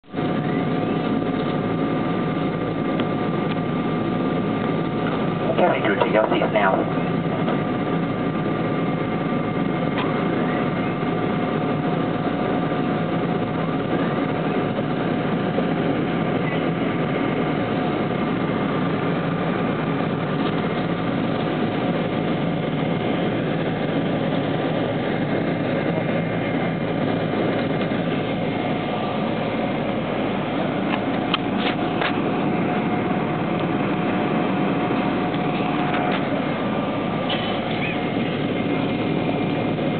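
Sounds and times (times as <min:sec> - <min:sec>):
constant high whine: 0:00.0 - 0:39.9
jet engines humming: 0:00.0 - 0:39.9
cabin air rushing: 0:00.2 - 0:39.9.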